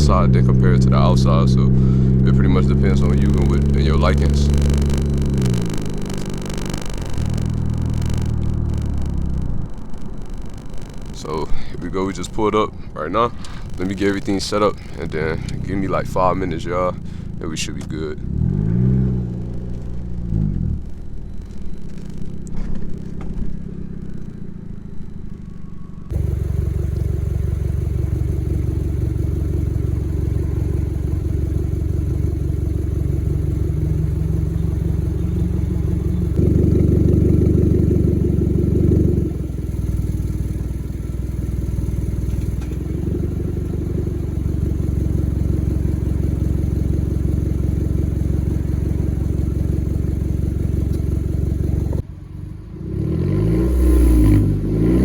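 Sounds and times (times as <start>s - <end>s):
car engine through straight exhaust: 0.0s - 55.0s.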